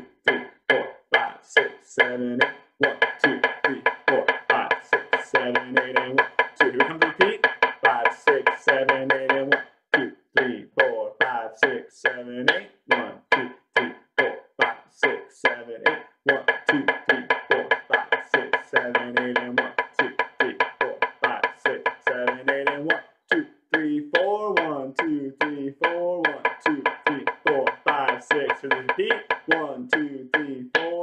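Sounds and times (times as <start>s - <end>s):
drumsticks striking practice pad: 0.0s - 31.0s.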